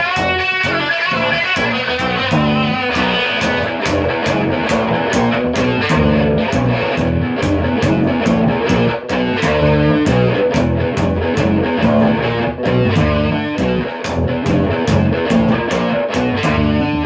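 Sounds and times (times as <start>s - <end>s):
driving drum beat: 0.0s - 17.0s
rock music with electric guitar: 0.0s - 17.0s.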